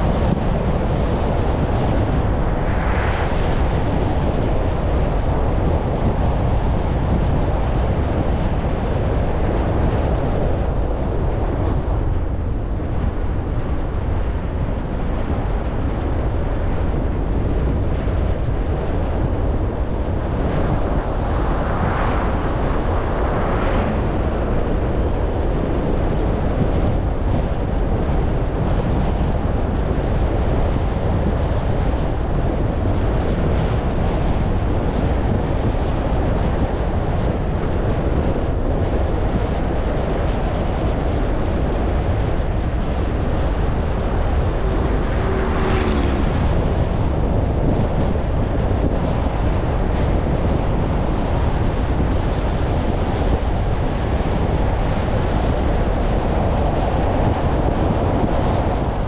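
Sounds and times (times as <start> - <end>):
car road and wind noise: 0.0 - 59.0.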